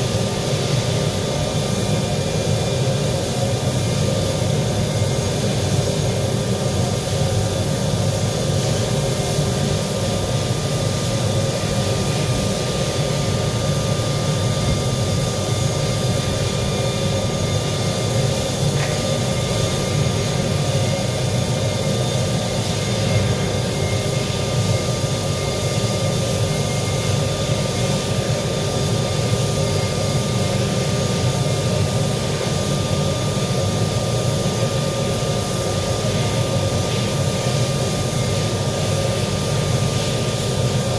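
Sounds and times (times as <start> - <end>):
arc welding hiss: 0.0 - 40.9.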